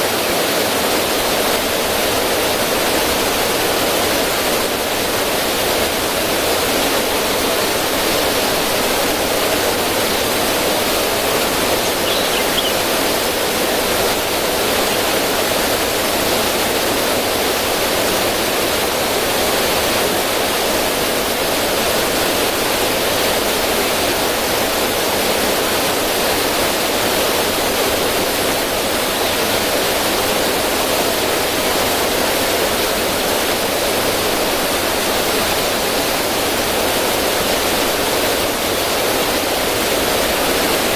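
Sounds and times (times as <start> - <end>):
river water splashing over rocks: 0.0 - 40.9.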